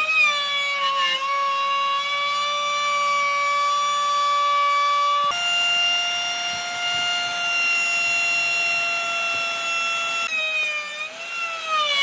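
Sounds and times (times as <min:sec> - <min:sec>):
power tool motor whine: 0:00.0 - 0:12.0.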